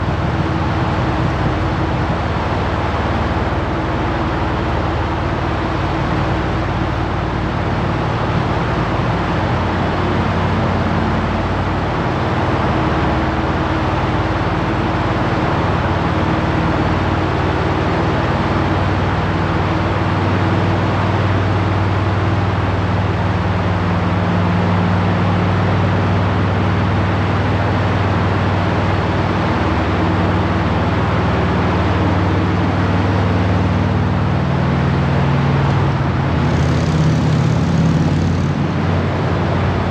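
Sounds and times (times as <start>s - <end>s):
motorcycle engine drone: 0.0s - 39.9s
wind rush and road noise: 0.0s - 39.9s.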